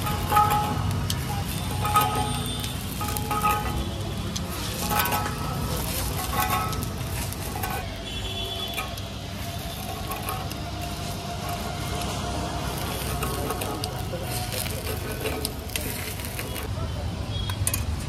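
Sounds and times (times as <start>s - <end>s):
metal utensils scraping a griddle: 0.0s - 16.7s
traffic: 0.0s - 18.0s.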